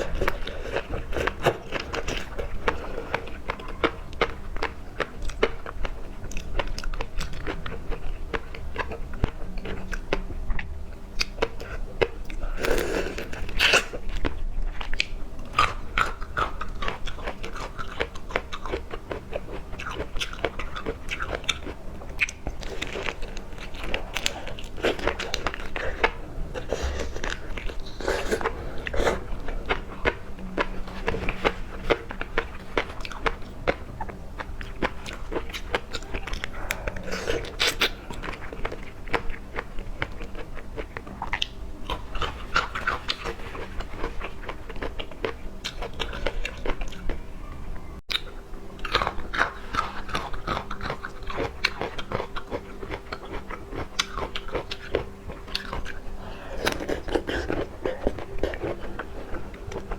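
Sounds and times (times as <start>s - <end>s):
person chewing seafood: 0.0s - 59.9s.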